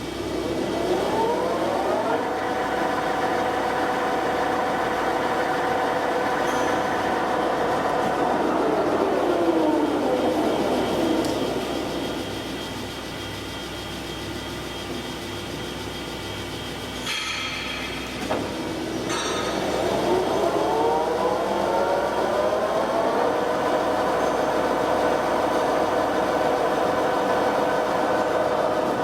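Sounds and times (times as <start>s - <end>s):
gear whine: 0.0s - 29.0s
lathe gearbox hum: 0.0s - 29.0s.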